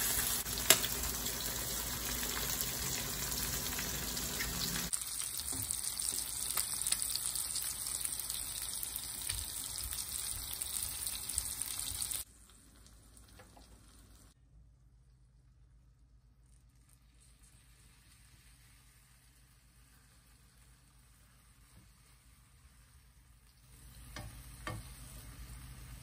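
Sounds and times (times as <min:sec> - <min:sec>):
food sizzling in a pan: 0:00.0 - 0:14.4, 0:16.5 - 0:26.0.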